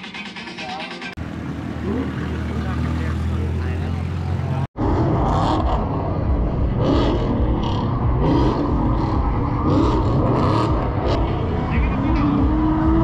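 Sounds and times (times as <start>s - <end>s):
continuous rumble: 0.0s - 13.0s
car engines revving: 0.1s - 13.0s.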